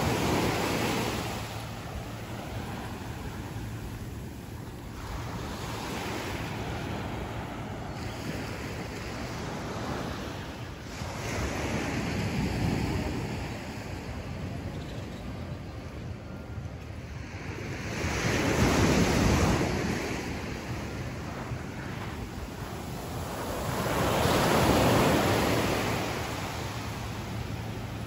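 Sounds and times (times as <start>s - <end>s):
ocean surf washing onto beach: 0.0s - 14.2s, 18.6s - 28.0s.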